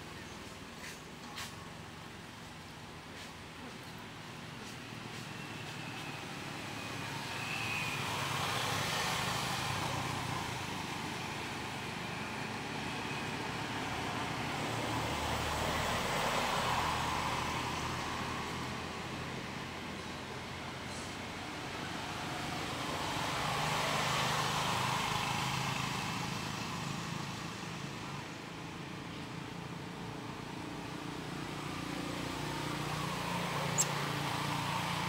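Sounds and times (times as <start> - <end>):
passing motor traffic: 0.0 - 35.0.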